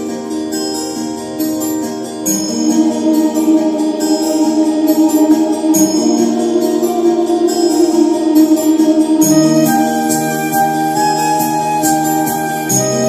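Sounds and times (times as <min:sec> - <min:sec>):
background music with long held notes: 0:00.0 - 0:13.0.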